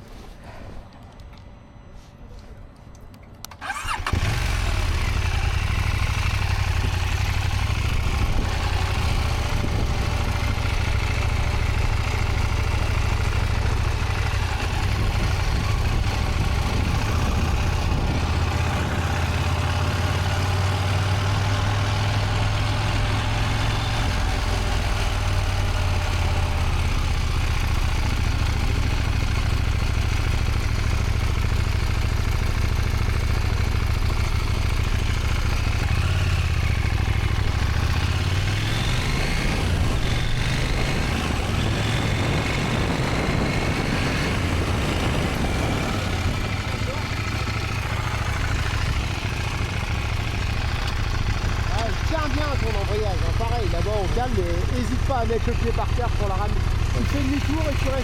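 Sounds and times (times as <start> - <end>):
motorcycle engine running: 3.6 - 58.0.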